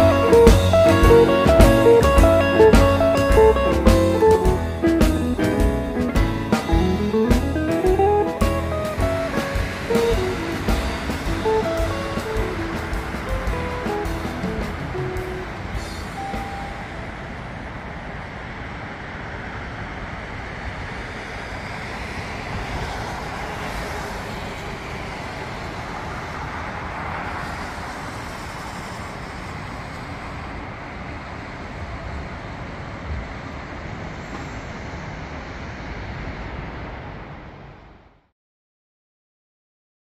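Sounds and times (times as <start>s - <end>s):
road traffic noise: 0.0s - 38.2s.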